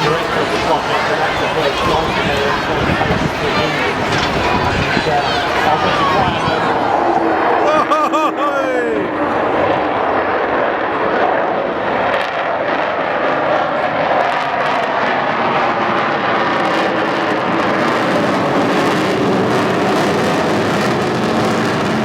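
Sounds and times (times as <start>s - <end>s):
jet roar: 0.0s - 22.0s.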